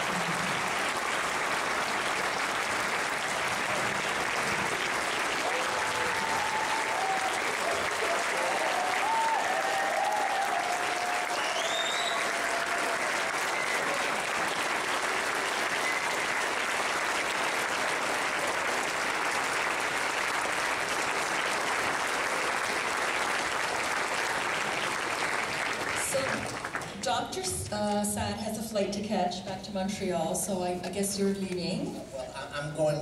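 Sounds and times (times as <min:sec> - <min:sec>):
large audience applauding: 0:00.0 - 0:27.1.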